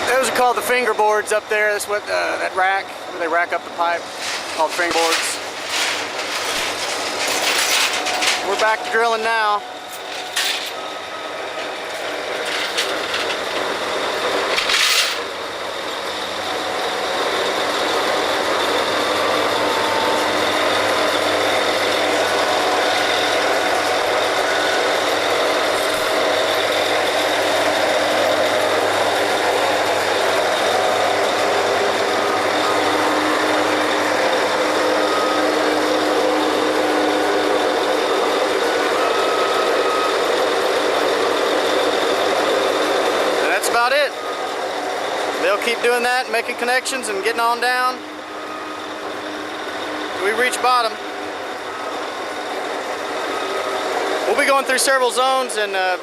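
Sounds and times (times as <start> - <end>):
drilling rig machinery din: 0.0 - 56.0.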